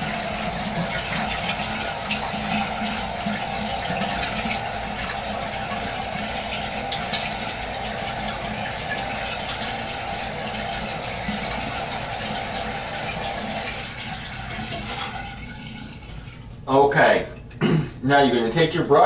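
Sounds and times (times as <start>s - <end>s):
tap running into sink: 0.0s - 16.0s.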